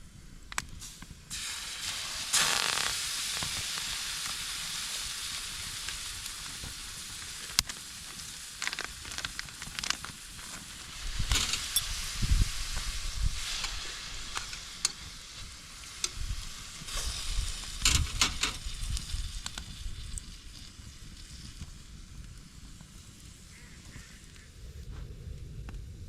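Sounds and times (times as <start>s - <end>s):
food sizzling in a pan: 0.8s - 24.2s.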